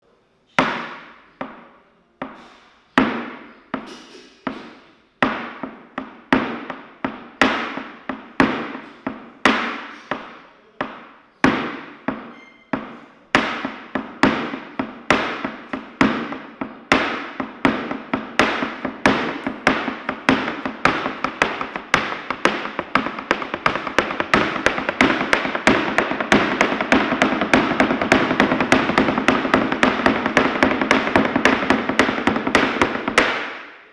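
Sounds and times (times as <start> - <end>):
flamenco shoes stamping on floor: 3.2 - 33.6.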